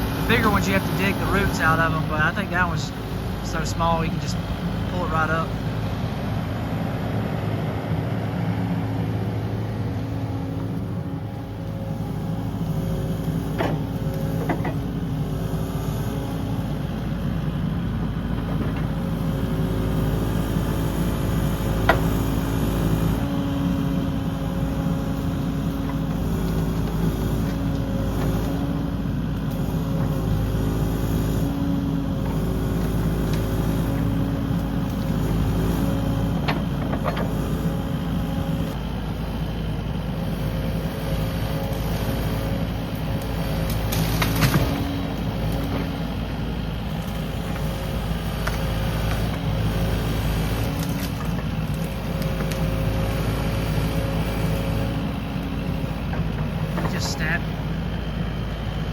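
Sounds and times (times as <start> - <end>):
diesel engine under load: 0.0 - 58.9.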